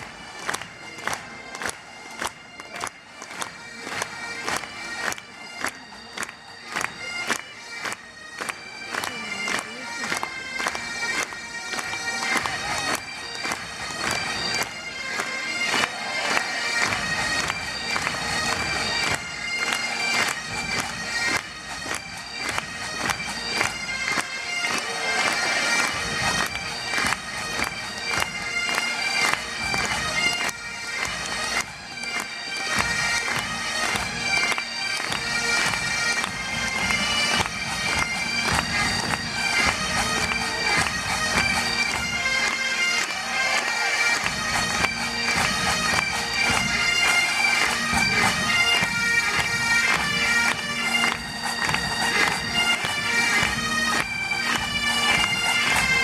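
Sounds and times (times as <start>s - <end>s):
bagpipes playing a tune: 0.0s - 56.0s.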